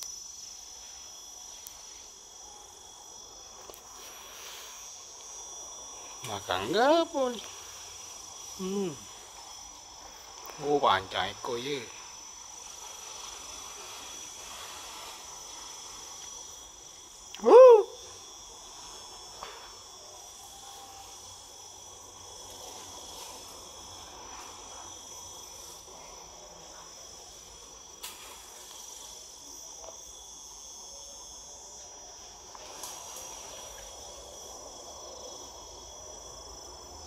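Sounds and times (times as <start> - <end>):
chorus of forest insects: 0.0 - 37.0.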